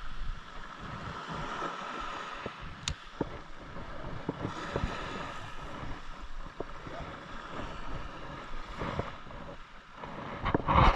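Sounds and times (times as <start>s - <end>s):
surf: 0.0s - 10.9s
wind on microphone: 0.0s - 10.9s.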